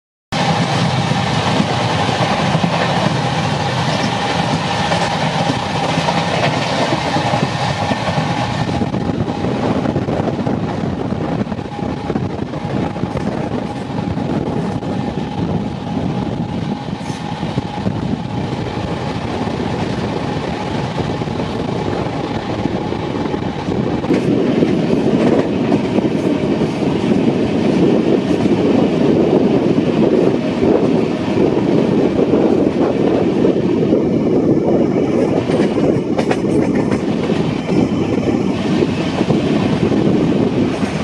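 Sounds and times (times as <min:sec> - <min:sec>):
rushing air: 0:00.4 - 0:41.0
train wheels rumbling on rails: 0:00.4 - 0:41.0.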